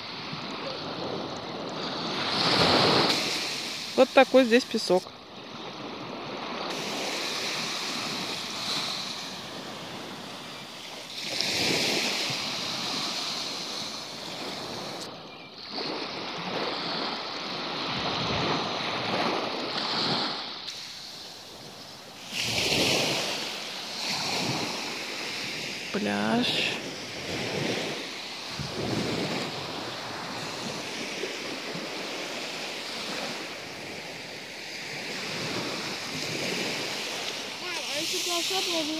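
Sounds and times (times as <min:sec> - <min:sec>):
surf washing onto sandy beach: 0:00.0 - 0:05.0, 0:05.7 - 0:38.9.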